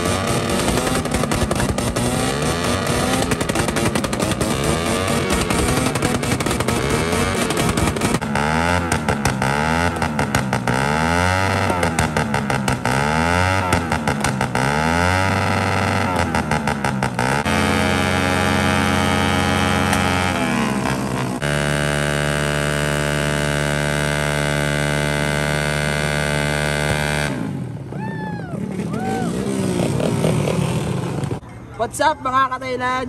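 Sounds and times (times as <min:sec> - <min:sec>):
exhaust backfire pops: 0:00.0 - 0:27.5
motorcycle engine revving: 0:00.0 - 0:27.9, 0:28.6 - 0:31.4.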